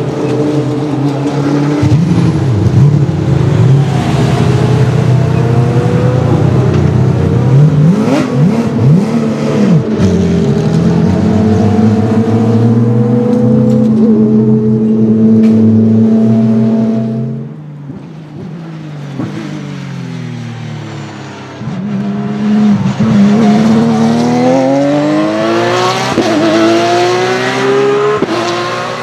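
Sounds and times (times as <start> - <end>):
race car engine revving: 0.0 - 17.5, 21.6 - 29.0.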